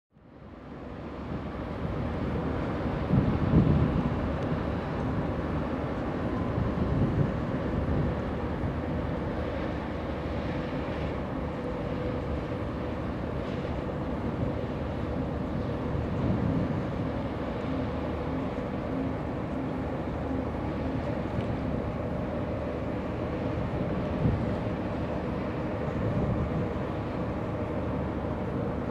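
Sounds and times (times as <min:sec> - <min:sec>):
ship engine low drone: 0:00.1 - 0:28.9
faint steady hum: 0:00.2 - 0:28.9
wind buffeting microphone: 0:01.1 - 0:28.9.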